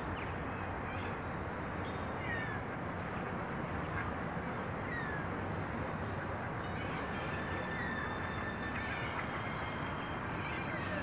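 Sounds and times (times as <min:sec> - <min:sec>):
steady rush of noise: 0:00.0 - 0:11.0.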